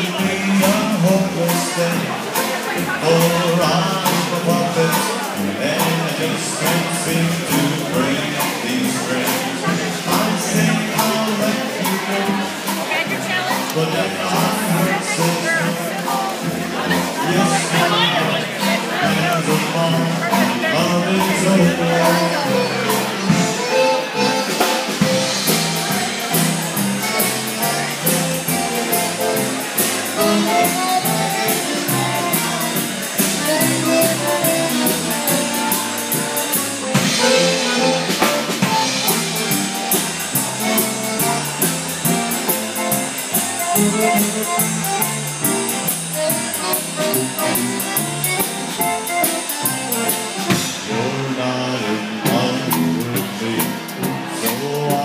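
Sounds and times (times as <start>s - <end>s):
drum beat: 0.0s - 50.9s
button concertina: 0.0s - 55.0s
electric keyboard: 0.0s - 55.0s
polka band playing: 0.0s - 55.0s
tuba: 0.0s - 55.0s.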